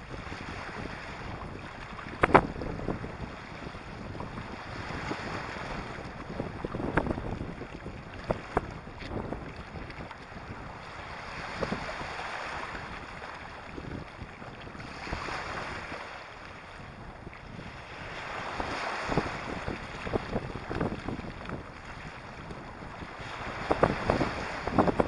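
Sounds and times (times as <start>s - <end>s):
wind on microphone: 0.0s - 25.0s
waves washing on shingle: 0.1s - 25.0s.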